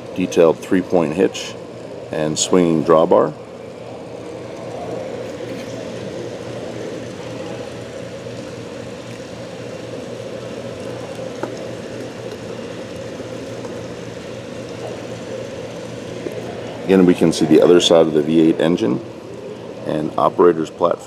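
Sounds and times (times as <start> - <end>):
mechanical hum with hiss: 0.0 - 21.0.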